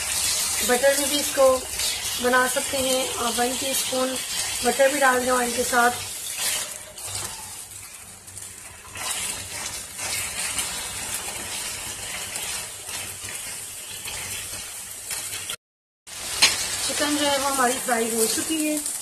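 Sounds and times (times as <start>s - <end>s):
spatula stirring in pan: 0.0s - 15.6s
chicken sizzling in hot oil: 0.0s - 19.0s.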